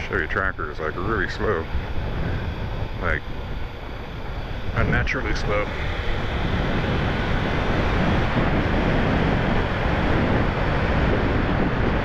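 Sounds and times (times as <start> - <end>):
motorcycle road noise: 0.0 - 12.0
wind rushing on microphone: 0.0 - 12.0.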